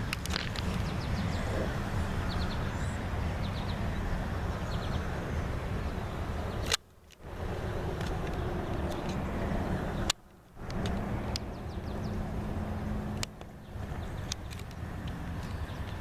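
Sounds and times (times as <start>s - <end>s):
small birds chirping: 0.3s - 6.8s, 8.1s - 16.0s.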